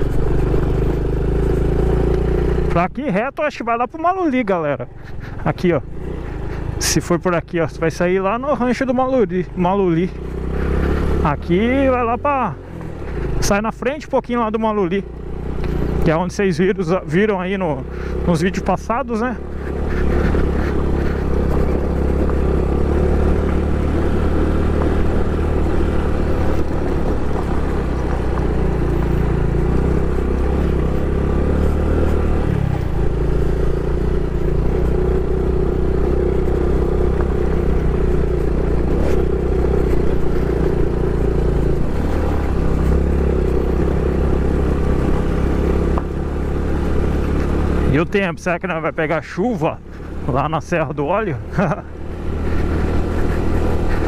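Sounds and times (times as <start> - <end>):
small motorcycle engine running: 0.0 - 3.3, 4.4 - 54.0.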